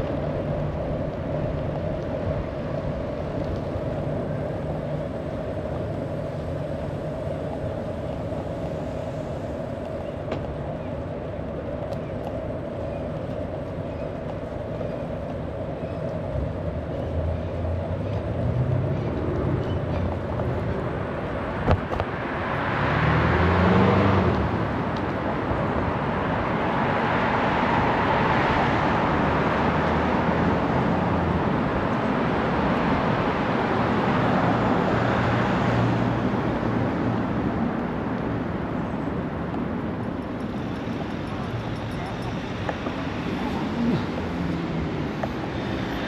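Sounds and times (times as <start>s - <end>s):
road traffic: 0.0s - 46.0s
vehicles passing: 0.0s - 46.0s.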